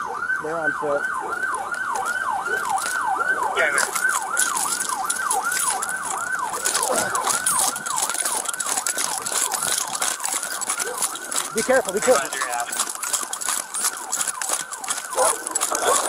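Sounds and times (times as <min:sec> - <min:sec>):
police siren yelp: 0:00.0 - 0:16.0.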